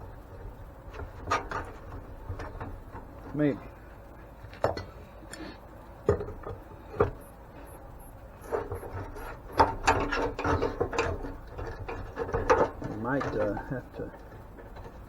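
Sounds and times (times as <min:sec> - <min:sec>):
clatter of clicks and scraping: 0:00.0 - 0:03.8, 0:04.4 - 0:07.7, 0:08.3 - 0:15.0.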